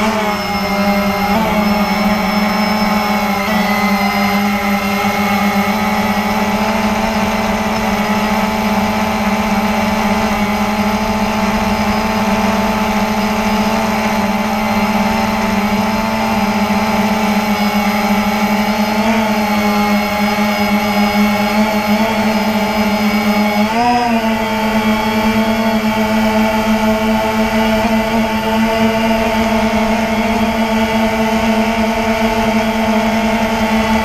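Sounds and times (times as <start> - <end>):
drone propellers droning: 0.0 - 34.0.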